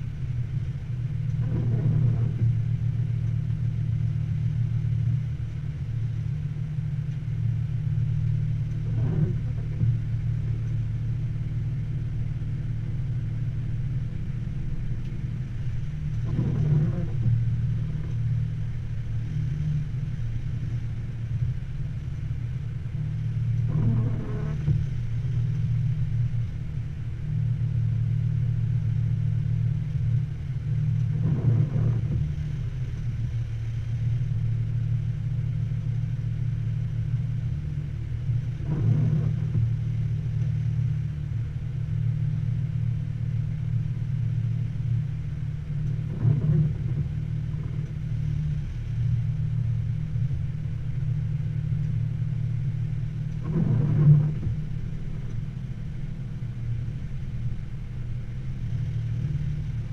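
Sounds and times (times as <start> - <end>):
vehicle engine low drone: 0.0 - 59.9.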